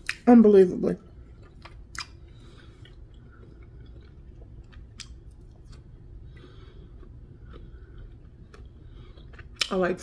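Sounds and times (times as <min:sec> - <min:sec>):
person chewing food: 0:01.1 - 0:09.8.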